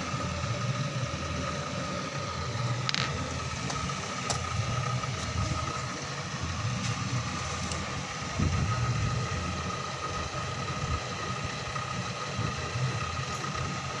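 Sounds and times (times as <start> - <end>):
car engine idling: 0.0 - 14.0
thin steady whine: 0.0 - 14.0.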